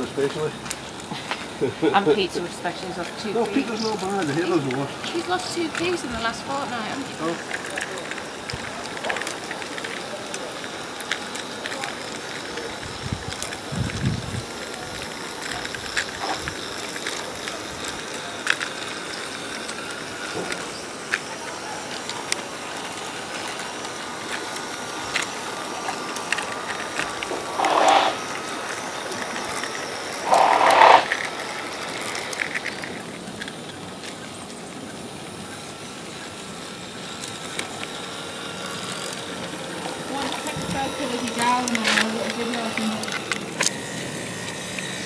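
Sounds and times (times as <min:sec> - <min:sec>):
faint motor whine: 0:00.0 - 0:45.0
model train wheels clicking: 0:00.0 - 0:45.0.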